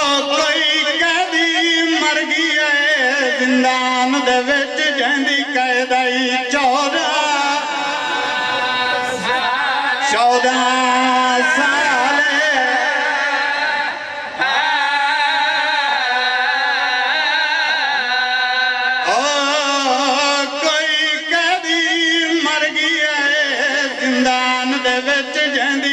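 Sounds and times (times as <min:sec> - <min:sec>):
man chanting a lament: 0:00.0 - 0:25.9.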